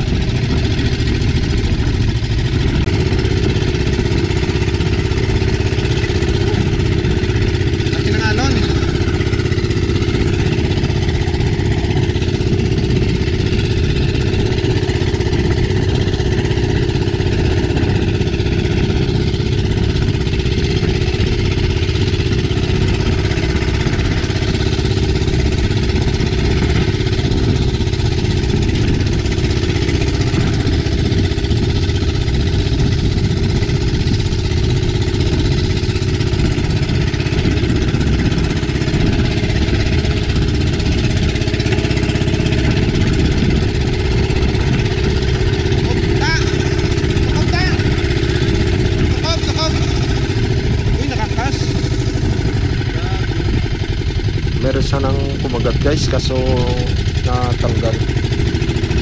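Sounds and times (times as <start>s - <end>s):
small boat engine running: 0.0s - 59.0s
wind across the microphone: 0.0s - 59.0s.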